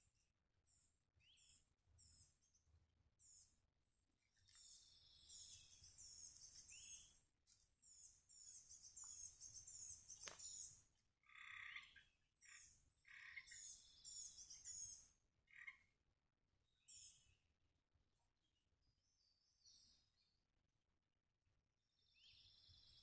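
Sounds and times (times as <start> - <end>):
songbird chirping: 0.0 - 20.8, 21.4 - 23.0.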